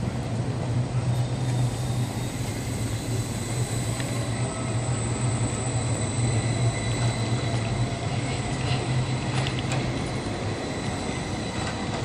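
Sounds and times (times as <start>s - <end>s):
tram low hum: 0.0s - 12.0s
high-pitched whine: 0.8s - 12.0s.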